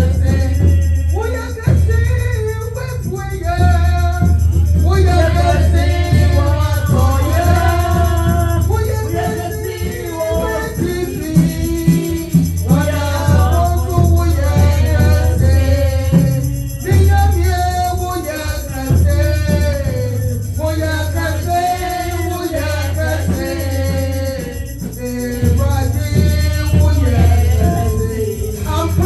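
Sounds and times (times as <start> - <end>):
band with heavy bass line: 0.0 - 29.0
shaken hand percussion: 0.0 - 29.0
voices singing: 0.0 - 29.0.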